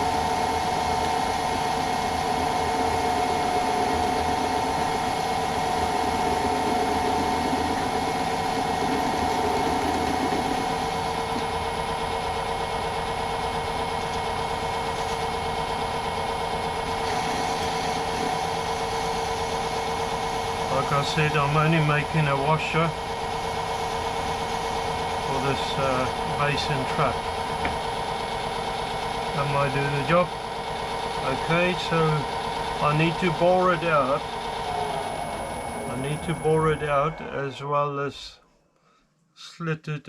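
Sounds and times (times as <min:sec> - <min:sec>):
metal lathe running: 0:00.0 - 0:37.5.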